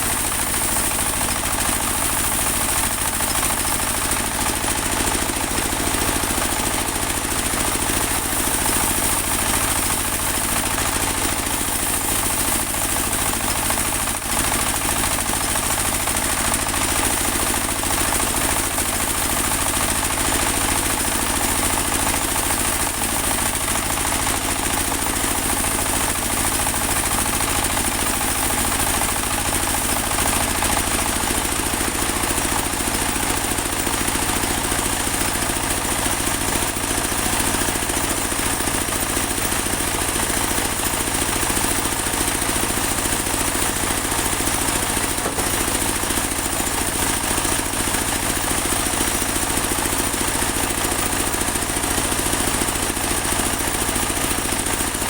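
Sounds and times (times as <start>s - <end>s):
band sawmill engine running: 0.0s - 55.0s.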